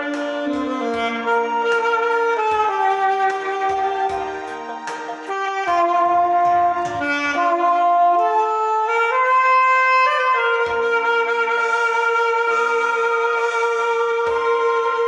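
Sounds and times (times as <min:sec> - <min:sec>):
instrumental accompaniment: 0:00.0 - 0:15.0
wind instrument slow melody: 0:00.0 - 0:15.0.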